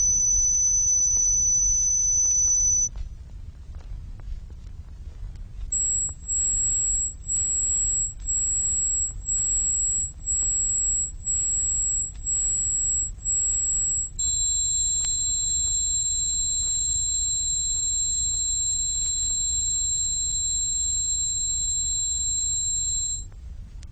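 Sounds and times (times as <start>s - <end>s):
high pure tone pulsing: 0.0s - 2.9s, 5.7s - 23.3s
lower high tone: 0.0s - 2.9s, 5.8s - 23.2s.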